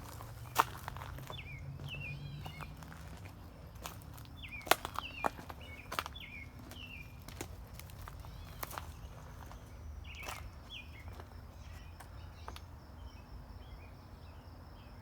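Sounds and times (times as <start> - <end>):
sharp footsteps: 0.0 - 12.6.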